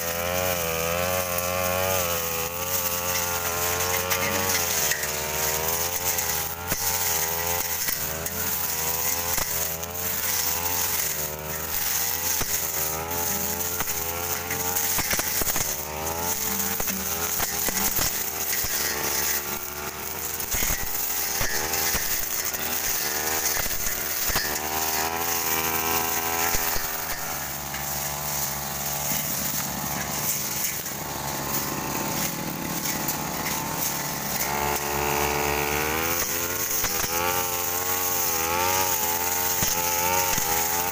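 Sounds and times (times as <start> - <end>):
blade ticking on undergrowth: 0.0 - 40.9
brush cutter engine running: 0.0 - 40.9.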